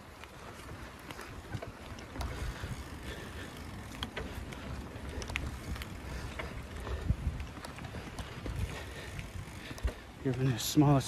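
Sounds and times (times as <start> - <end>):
bicycle clicks and rattles: 0.0 - 11.0
wind and tyres rumbling: 0.0 - 11.0.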